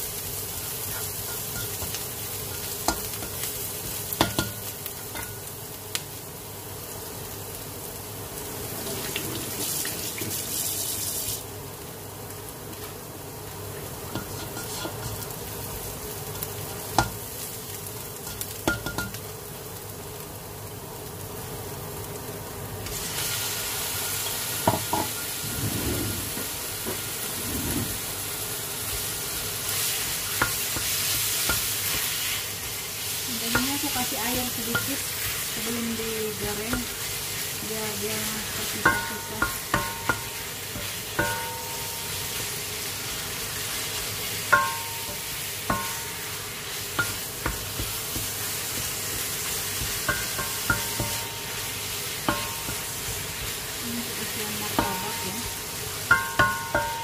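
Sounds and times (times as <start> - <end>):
onion sizzling in oil: 0.0 - 57.0.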